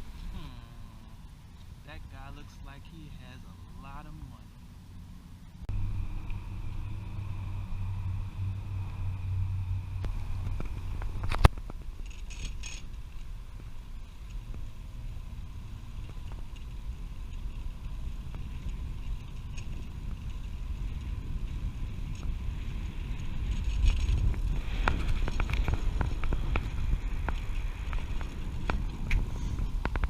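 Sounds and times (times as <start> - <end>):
bicycle tyres rumbling: 0.0 - 30.0
low hum: 0.0 - 30.0
wind: 0.0 - 30.0.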